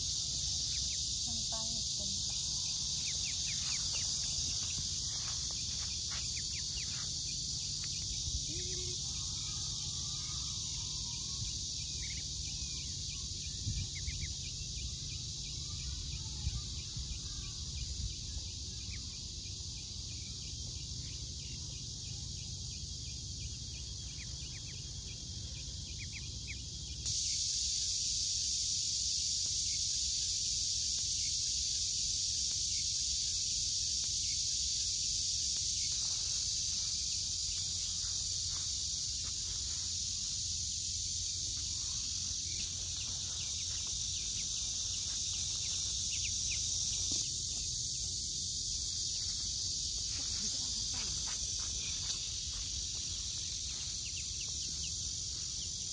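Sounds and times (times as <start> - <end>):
high insect chorus: 0.0 - 55.9.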